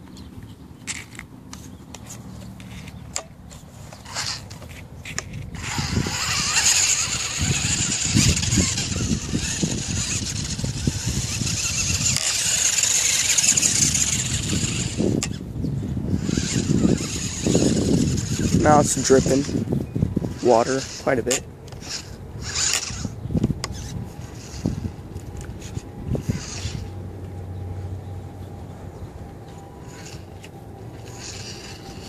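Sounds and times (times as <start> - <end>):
toy truck drive whirring: 0.8 - 15.5, 16.1 - 27.0, 29.5 - 32.0.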